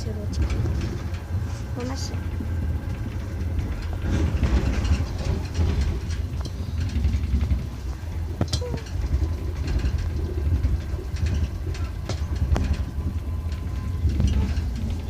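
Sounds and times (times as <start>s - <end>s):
train rumble: 0.0s - 15.0s
clicks and knocks: 2.1s - 15.0s.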